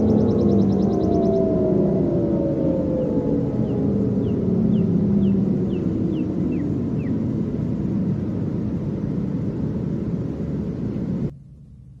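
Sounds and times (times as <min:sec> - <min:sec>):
low rumbling siren drone: 0:00.0 - 0:12.0.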